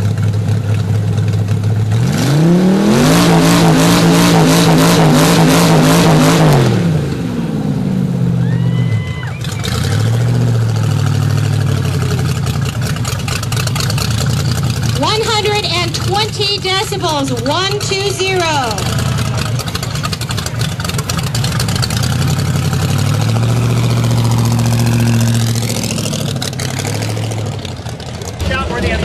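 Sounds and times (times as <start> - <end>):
truck engine revving and idling: 0.0 - 29.0.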